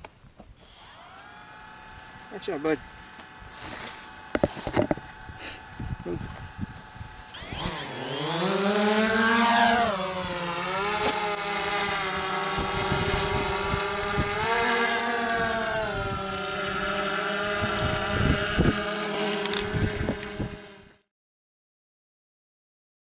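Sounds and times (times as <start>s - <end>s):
drone propellers buzzing: 0.6s - 21.0s.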